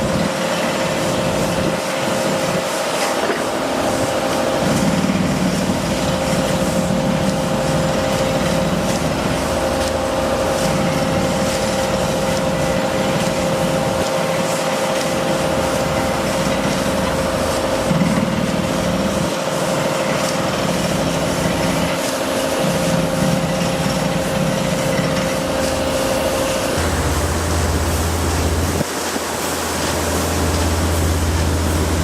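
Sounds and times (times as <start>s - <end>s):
constant machine whine: 0.0s - 32.0s
machinery engine drone: 0.0s - 32.0s.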